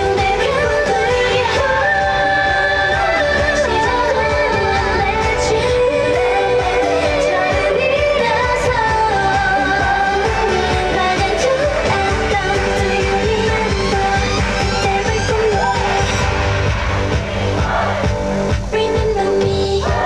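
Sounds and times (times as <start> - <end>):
women singing into microphones: 0.0 - 16.3, 18.6 - 20.0
pop backing track: 0.0 - 20.0.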